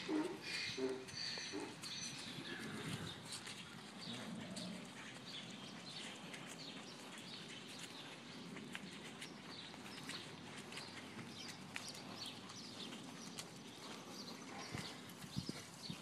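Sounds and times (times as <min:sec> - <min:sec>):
footsteps on muddy ground: 0:00.0 - 0:16.0.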